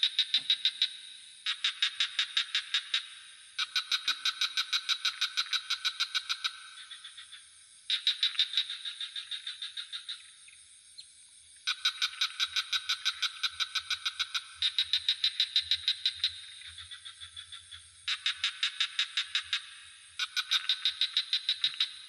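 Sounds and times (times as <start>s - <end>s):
frogs calling in pulsed trills: 0.0s - 22.0s.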